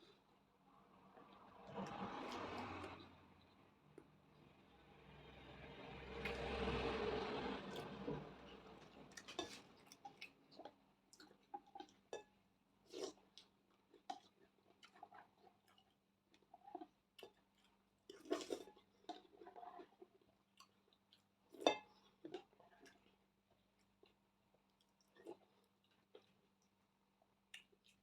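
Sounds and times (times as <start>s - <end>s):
chewing and eating: 1.1s - 4.4s, 5.6s - 28.0s.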